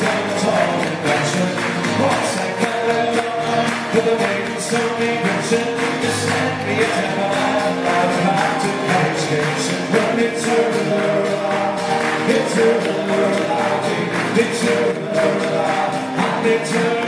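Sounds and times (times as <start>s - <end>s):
acoustic guitar strumming: 0.0s - 17.0s
bouzouki strumming: 0.0s - 17.0s.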